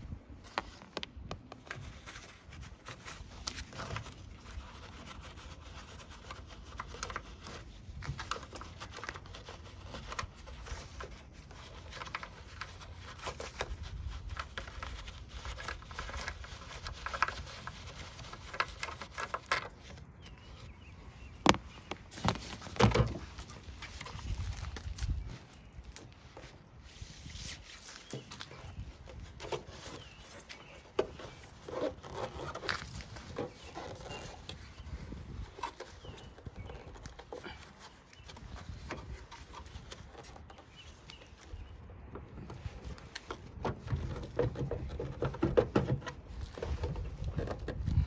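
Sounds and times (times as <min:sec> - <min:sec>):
hands handling plastic parts: 0:00.3 - 0:20.7, 0:21.3 - 0:48.0.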